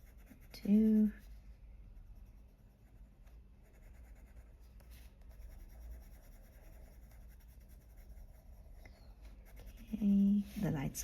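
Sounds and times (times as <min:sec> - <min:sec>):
pencil scratching on paper: 0:00.0 - 0:11.0
steady low hum: 0:00.0 - 0:11.0.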